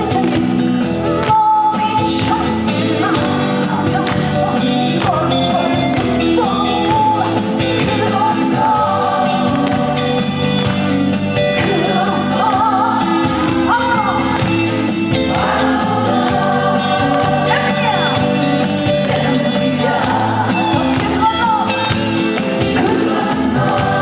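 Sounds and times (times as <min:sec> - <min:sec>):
person singing: 0:00.0 - 0:24.0
band playing: 0:02.1 - 0:24.0.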